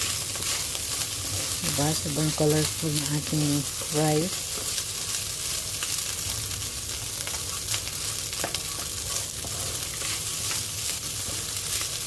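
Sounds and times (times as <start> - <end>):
rice sizzling in a pan: 0.0 - 12.0.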